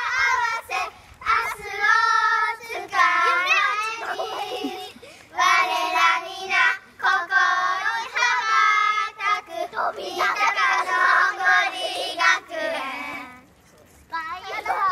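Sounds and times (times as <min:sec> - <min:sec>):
young children singing: 0:00.0 - 0:13.4.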